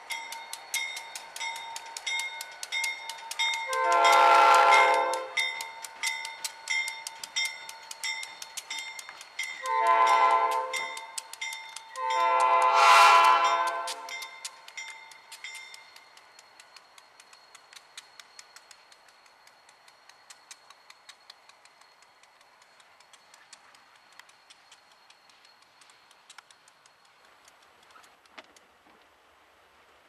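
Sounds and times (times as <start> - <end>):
railroad crossing bell ringing: 0.0 - 27.3.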